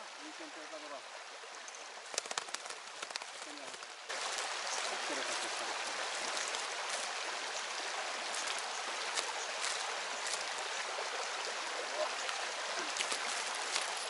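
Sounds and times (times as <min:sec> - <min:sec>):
river water rushing over stones: 0:02.0 - 0:14.0.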